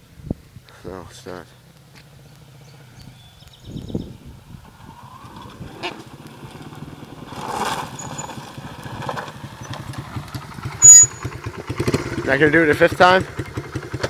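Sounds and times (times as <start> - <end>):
dirt bike engine idling: 1.0 - 14.0.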